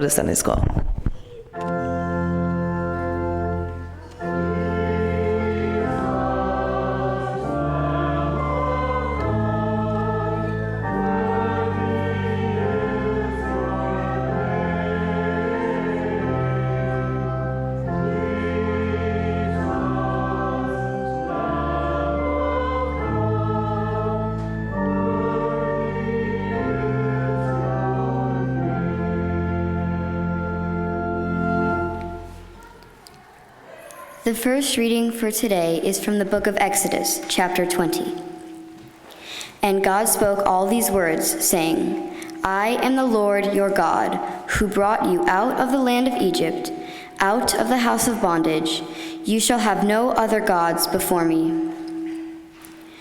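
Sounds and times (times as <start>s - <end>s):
organ chords: 1.5s - 33.0s, 35.6s - 53.0s
voices singing a hymn: 1.6s - 34.2s, 36.7s - 53.0s.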